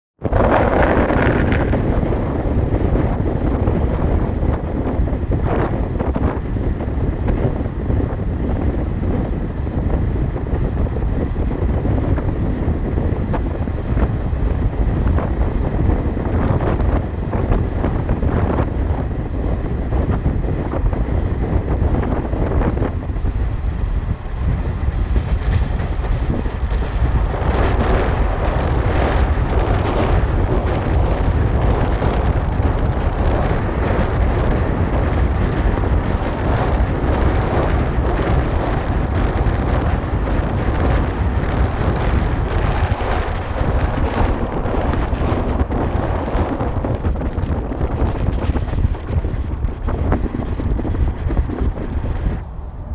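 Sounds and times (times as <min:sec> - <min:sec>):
moving train rumbling: 0:00.2 - 0:52.9
wind buffeting microphone: 0:00.2 - 0:52.9.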